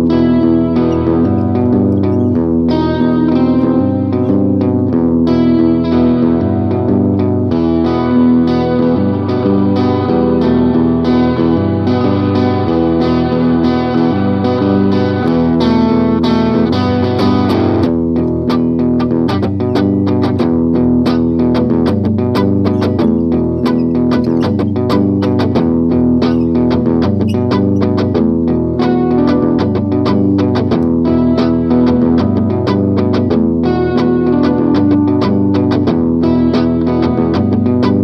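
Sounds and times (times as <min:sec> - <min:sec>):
guitar with effects: 0:00.0 - 0:38.0.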